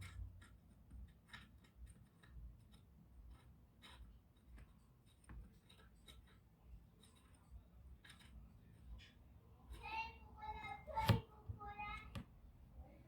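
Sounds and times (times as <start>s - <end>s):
faint small clicks and taps: 0.0s - 9.9s, 11.0s - 12.4s.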